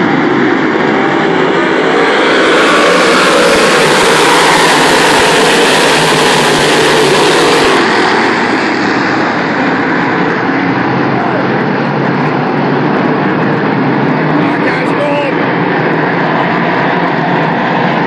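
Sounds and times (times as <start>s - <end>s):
race car engines at speed: 0.0s - 18.0s.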